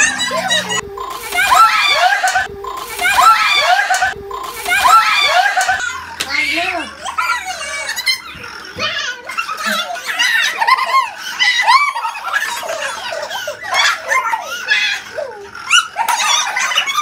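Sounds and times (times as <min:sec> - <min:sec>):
children and women laughing: 0:00.0 - 0:08.6, 0:09.2 - 0:17.0.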